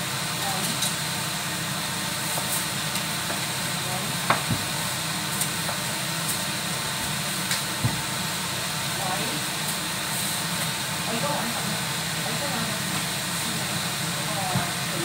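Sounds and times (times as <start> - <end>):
wok simmering hiss: 0.0 - 15.0.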